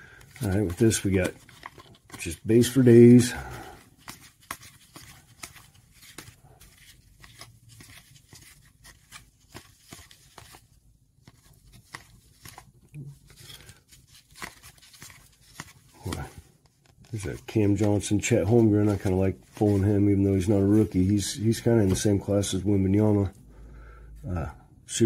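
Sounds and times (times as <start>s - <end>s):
cardboard cards flicking and sliding: 0.2s - 22.4s.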